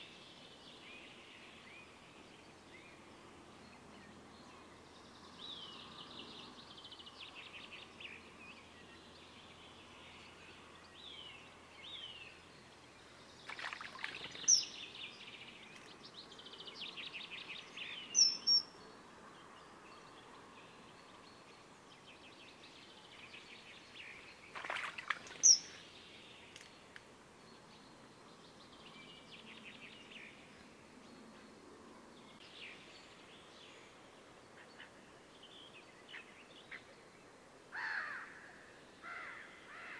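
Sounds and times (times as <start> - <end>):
songbirds singing softly: 0.0 - 39.9.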